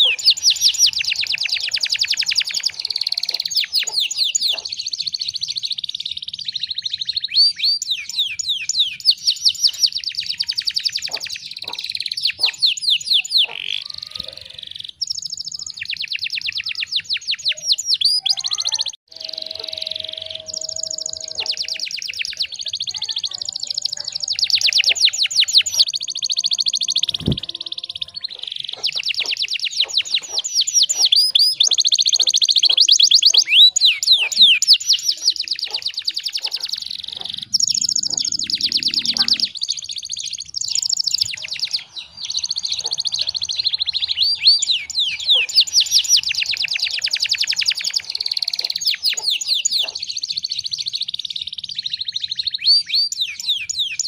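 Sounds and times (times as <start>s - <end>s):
canary singing with fast trills: 0.0s - 54.0s.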